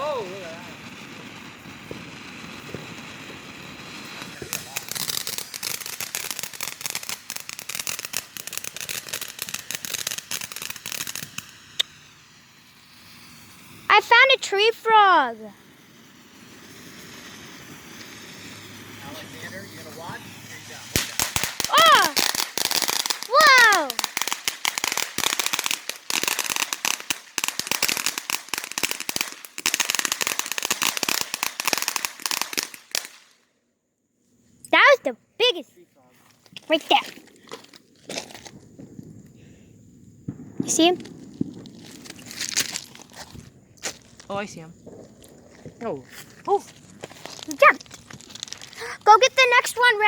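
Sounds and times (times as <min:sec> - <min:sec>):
firework crackling pops: 0:00.0 - 0:33.5, 0:36.2 - 0:50.0.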